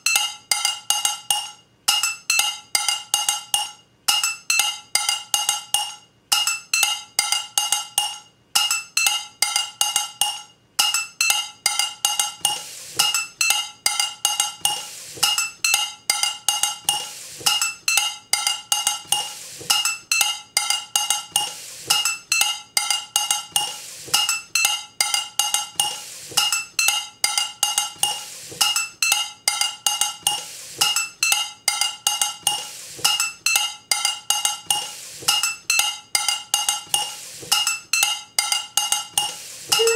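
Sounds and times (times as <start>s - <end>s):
frying pan struck with chopstick: 0.1s - 39.9s.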